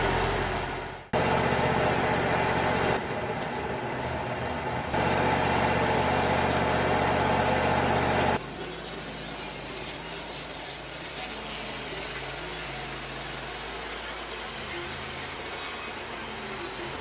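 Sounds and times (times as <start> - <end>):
bandsaw sawmill running: 0.0 - 17.0.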